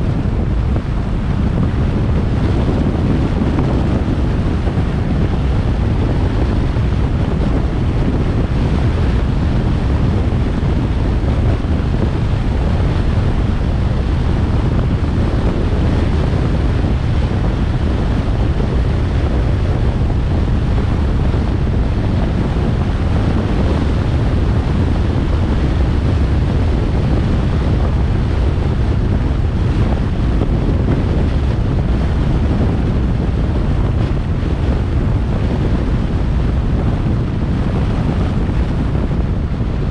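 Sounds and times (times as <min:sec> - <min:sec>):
road noise: 0:00.0 - 0:39.9
wind buffeting microphone: 0:00.0 - 0:39.9.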